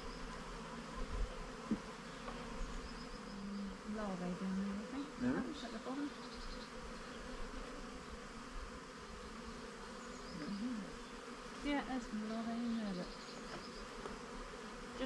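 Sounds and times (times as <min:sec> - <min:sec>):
bees flying close: 0:00.0 - 0:15.0
honeybees buzzing: 0:00.0 - 0:15.0.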